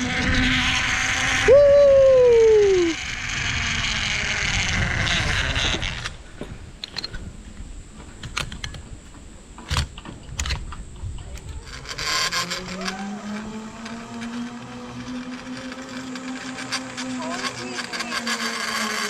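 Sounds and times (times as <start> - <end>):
zip line trolley on steel cable: 0.0 - 7.3, 9.6 - 19.0.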